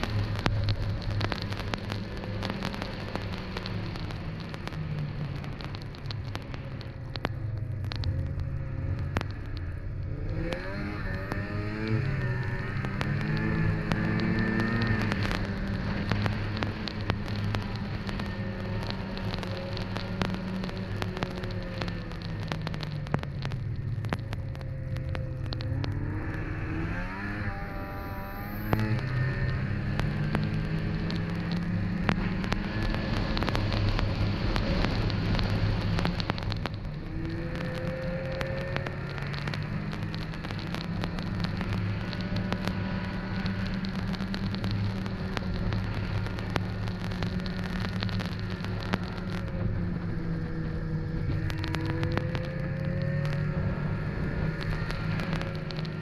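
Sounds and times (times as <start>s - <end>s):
crackling noise: 0.0s - 56.0s
snowmobile engine running: 0.0s - 56.0s.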